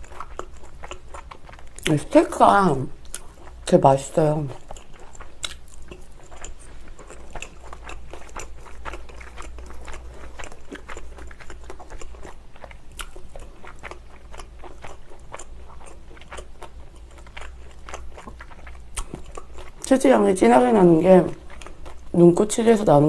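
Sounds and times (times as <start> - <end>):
crunchy chewing: 0.0 - 2.4, 3.0 - 22.2
steady low hum: 0.0 - 23.0.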